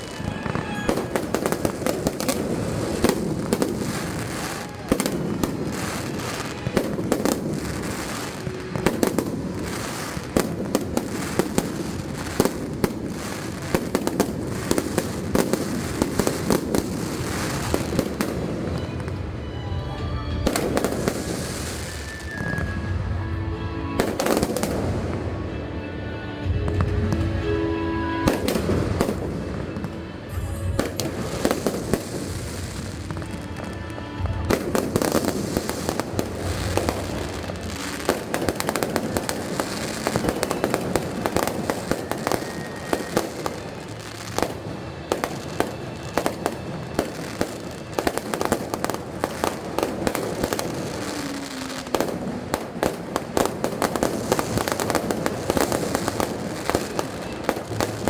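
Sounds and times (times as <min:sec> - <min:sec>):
fireworks bursting: 0:00.0 - 0:58.0
music playing: 0:00.0 - 0:58.0.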